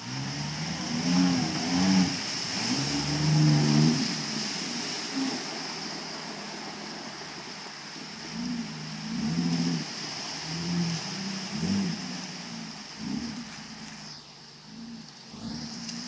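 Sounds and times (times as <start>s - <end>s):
water spraying from a hose: 0.0s - 16.0s.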